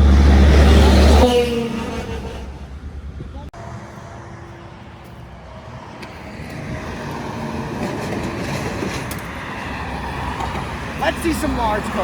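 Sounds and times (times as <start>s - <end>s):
road vehicle approaching: 0.0s - 12.0s.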